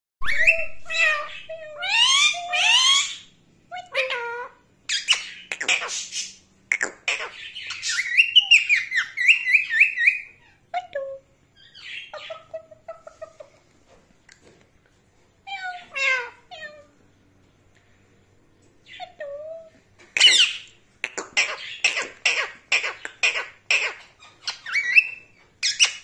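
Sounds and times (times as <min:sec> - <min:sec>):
parakeet calling and chattering: 0:00.2 - 0:13.5, 0:15.4 - 0:16.9, 0:18.8 - 0:26.0.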